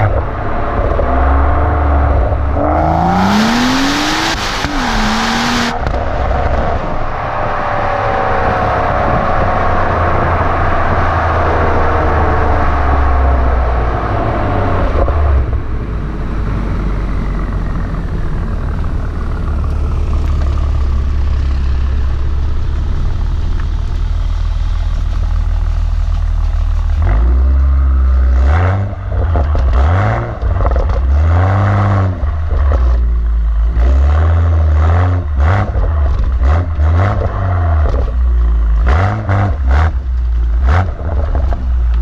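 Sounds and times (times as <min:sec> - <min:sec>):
exhaust cracks: 0:00.0 - 0:11.4, 0:12.5 - 0:42.0
car engine revving: 0:00.0 - 0:42.0.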